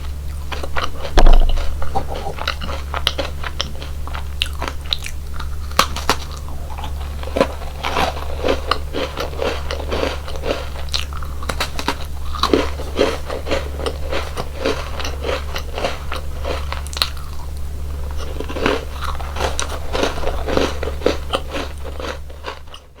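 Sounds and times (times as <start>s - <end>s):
crunchy chewing: 0.0s - 23.0s
steady low hum: 0.0s - 23.0s.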